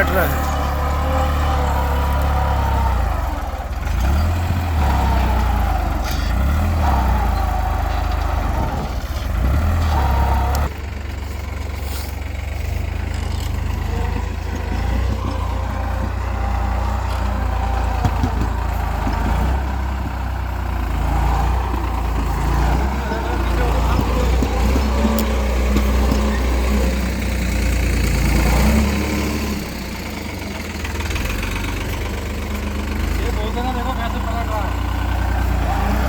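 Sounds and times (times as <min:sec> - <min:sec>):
machinery engine drone: 0:00.0 - 0:36.0.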